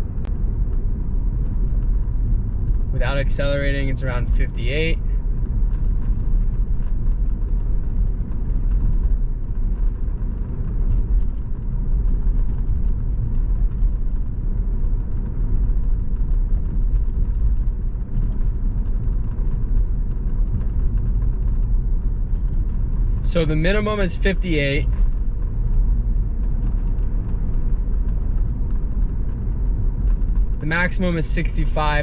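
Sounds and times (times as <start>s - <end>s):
car cabin road and engine rumble: 0.0s - 32.0s.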